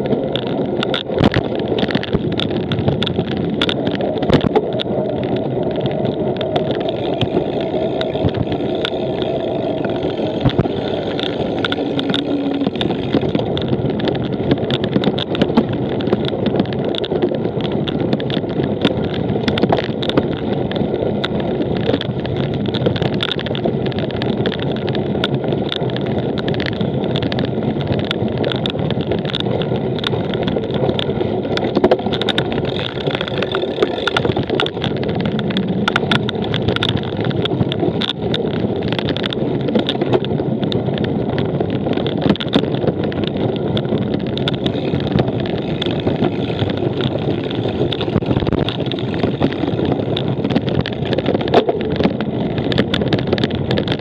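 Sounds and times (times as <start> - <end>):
bike rattling clicks: 0.0 - 54.0
bike tyres rumbling: 0.0 - 54.0.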